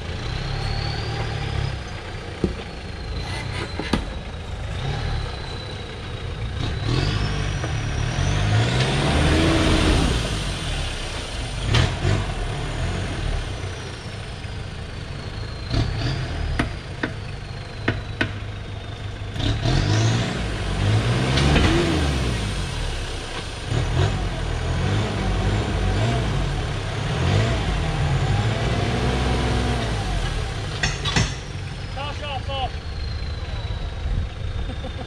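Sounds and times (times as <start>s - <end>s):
engine revving under load: 0.0s - 14.5s, 15.6s - 17.2s, 19.2s - 35.0s.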